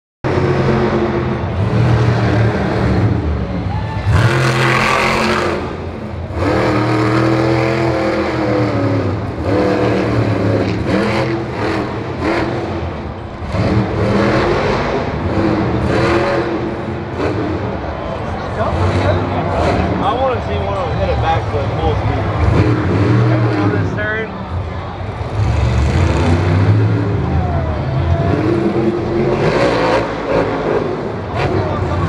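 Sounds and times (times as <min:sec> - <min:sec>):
truck engine revving hard: 0:00.2 - 0:32.0.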